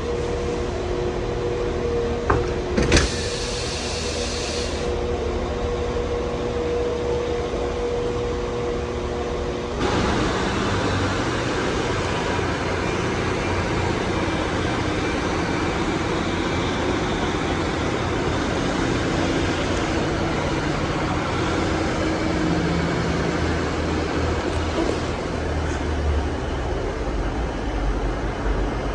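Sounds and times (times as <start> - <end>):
train rumbling: 0.0 - 28.9.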